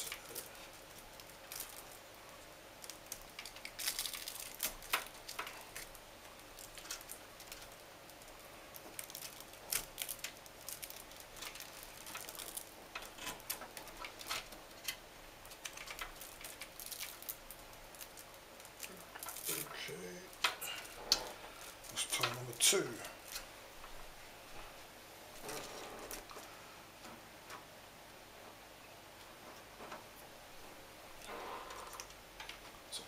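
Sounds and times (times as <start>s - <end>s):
cables rustling and scraping: 0.0s - 27.7s, 29.2s - 33.0s.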